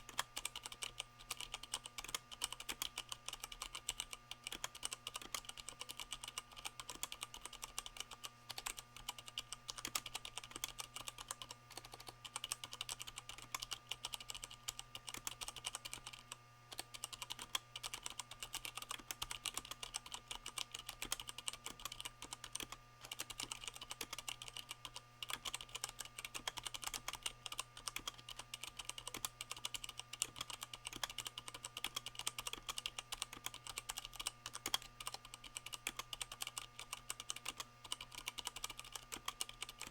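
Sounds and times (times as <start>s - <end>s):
muted keyboard typing: 0.1s - 39.9s.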